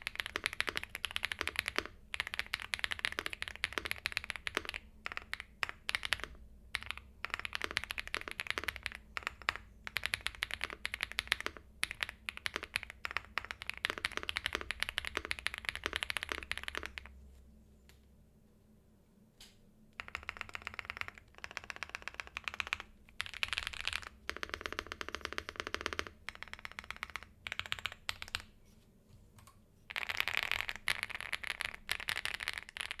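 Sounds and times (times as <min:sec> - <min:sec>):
fast typing on mechanical keyboard: 0:00.0 - 0:17.1, 0:20.0 - 0:28.5, 0:29.9 - 0:33.0.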